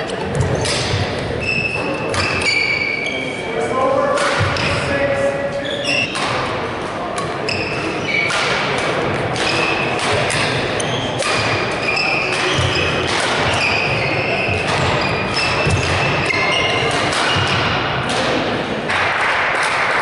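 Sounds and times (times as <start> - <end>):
shoes squeaking on wooden court: 0.0 - 3.5, 4.4 - 6.5, 7.2 - 17.8
racket hitting shuttlecock: 0.2 - 2.6, 4.2 - 4.8, 6.0 - 20.0.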